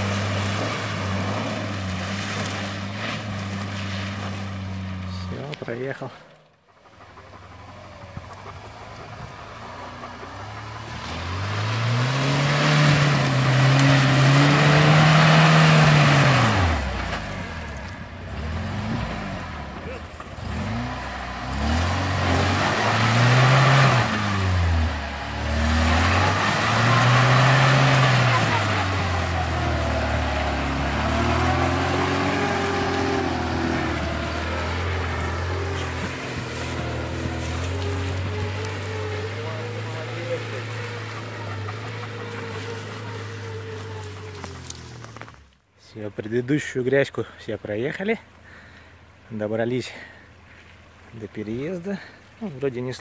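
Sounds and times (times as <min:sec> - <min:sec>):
suv engine revving: 0:00.0 - 0:06.1, 0:06.8 - 0:45.6
tyres churning through mud: 0:00.0 - 0:53.0.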